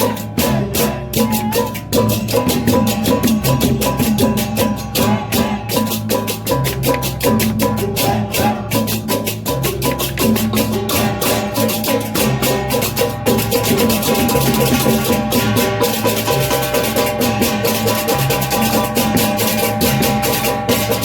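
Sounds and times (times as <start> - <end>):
gamelan music: 0.0 - 21.0.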